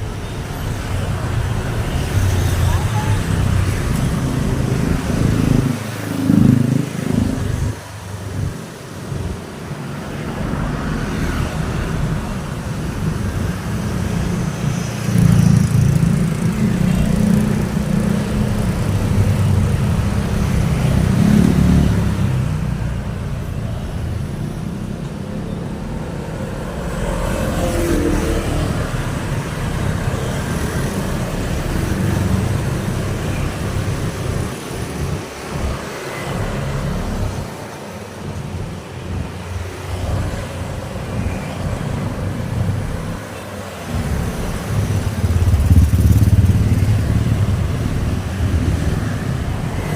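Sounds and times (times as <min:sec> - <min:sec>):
cars and motorbikes passing: 0:00.0 - 0:49.9.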